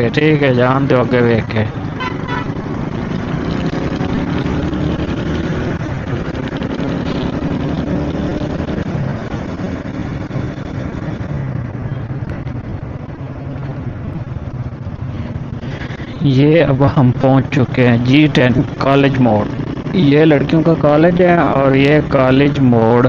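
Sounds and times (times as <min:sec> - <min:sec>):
road and wind noise: 0:00.0 - 0:23.0
motorcycle engine running: 0:01.7 - 0:16.1, 0:17.9 - 0:22.5.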